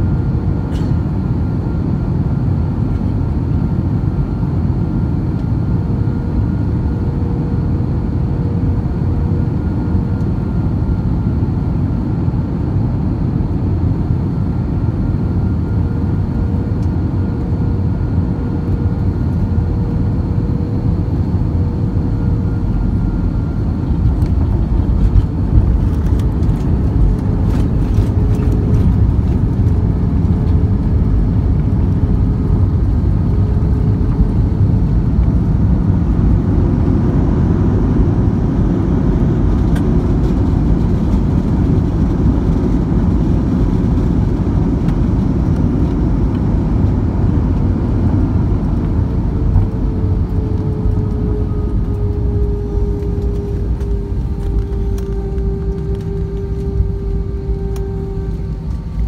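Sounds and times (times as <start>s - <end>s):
faint steady whine: 0.0s - 59.0s
jet engine and airflow rumble: 0.0s - 59.0s.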